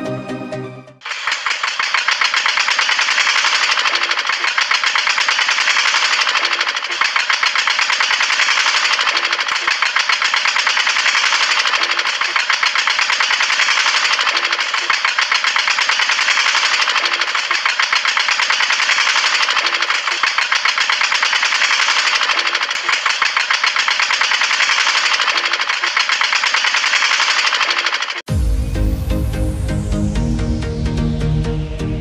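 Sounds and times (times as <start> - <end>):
small motor driving grain mill: 1.0 - 28.3.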